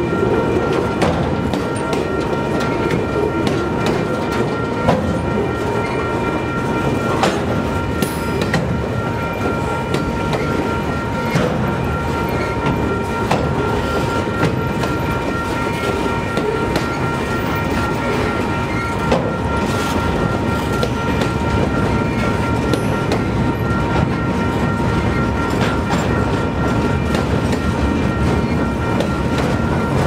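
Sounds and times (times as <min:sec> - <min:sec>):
train wheels clattering on rails: 0:00.0 - 0:30.0.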